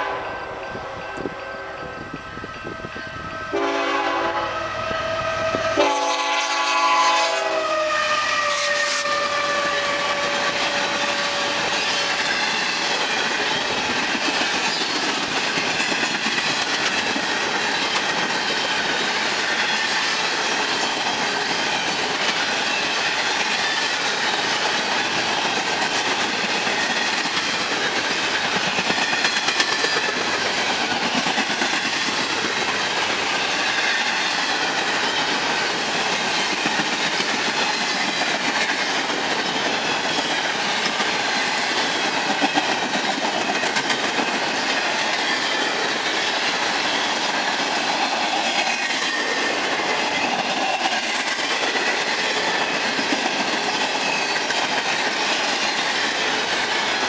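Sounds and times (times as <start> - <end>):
steel train wheels rushing on rail: 0.0 - 57.0.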